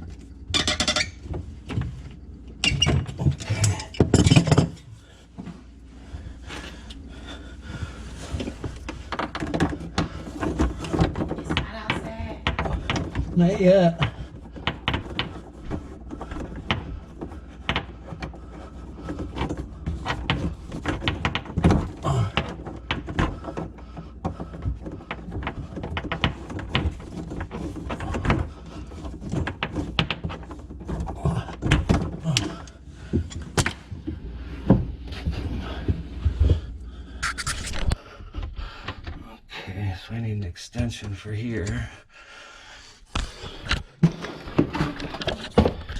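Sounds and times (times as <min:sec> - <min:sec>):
drain pipes clicking and rattling: 0:00.0 - 0:05.5, 0:06.4 - 0:39.2, 0:43.1 - 0:45.9.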